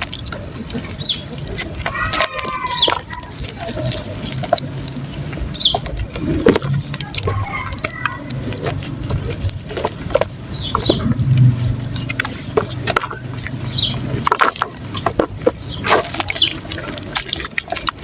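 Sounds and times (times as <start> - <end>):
mud crumbling in water: 0.0 - 18.0.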